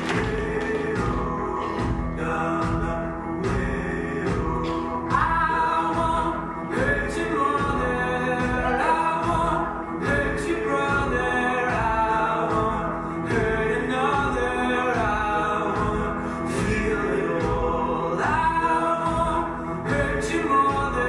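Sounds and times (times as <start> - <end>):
singing over a steady beat: 0.0 - 21.0.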